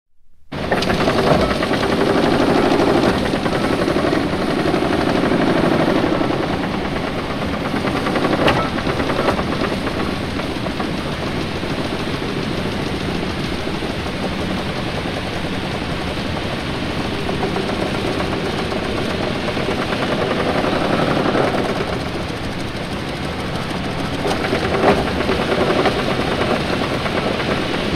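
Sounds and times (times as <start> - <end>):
steam engine mechanical beat: 0.5 - 27.9.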